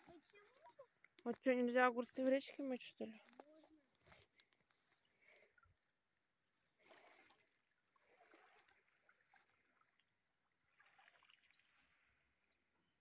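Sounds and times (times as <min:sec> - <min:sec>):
faint water sloshing: 0:00.0 - 0:13.0.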